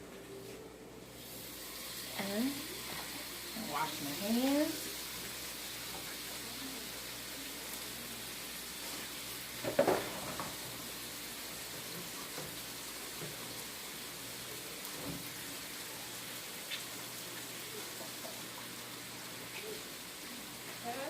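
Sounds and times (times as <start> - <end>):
chicken sizzling in a pot: 1.1 - 21.0.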